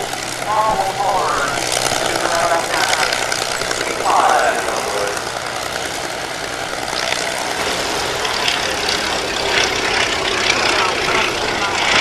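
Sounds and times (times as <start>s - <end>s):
propeller plane engine flying past: 0.0s - 12.0s.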